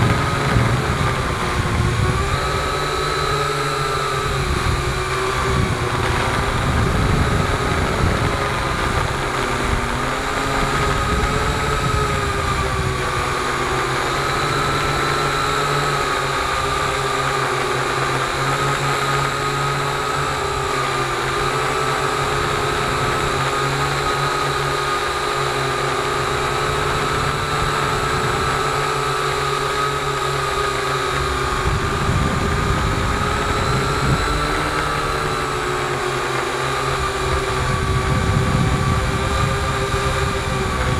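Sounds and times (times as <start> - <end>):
drone propellers whining: 0.0 - 40.9
wind buffeting microphone: 0.0 - 40.9.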